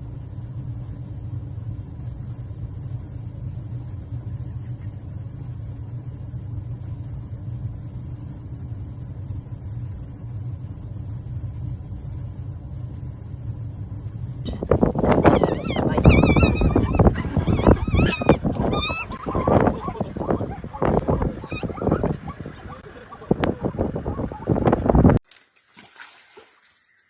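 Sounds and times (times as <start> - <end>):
engine idling rumble: 0.0 - 25.2.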